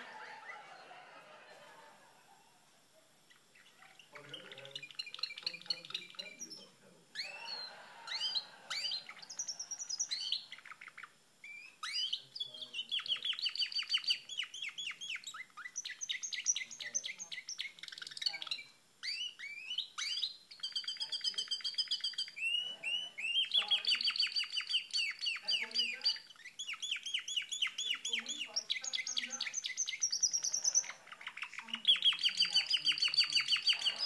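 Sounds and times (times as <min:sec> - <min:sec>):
canary singing trills: 0:02.3 - 0:34.0.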